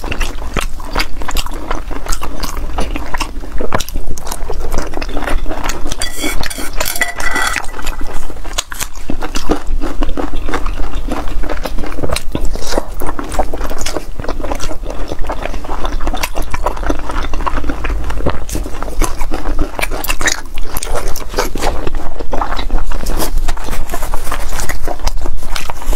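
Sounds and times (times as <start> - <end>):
wet chewing and biting: 0.0 - 6.9, 7.6 - 25.9.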